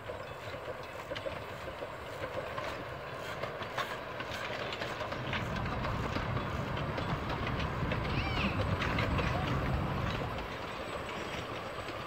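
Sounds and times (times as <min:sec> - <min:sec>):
steam train running: 0:00.0 - 0:12.0
wheels clicking over rails: 0:00.0 - 0:12.0.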